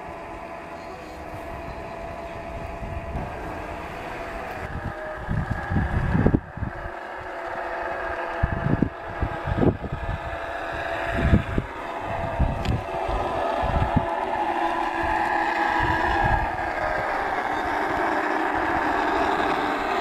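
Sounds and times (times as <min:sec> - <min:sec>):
motor humming: 0:00.0 - 0:20.0
wind buffeting microphone: 0:00.0 - 0:20.0.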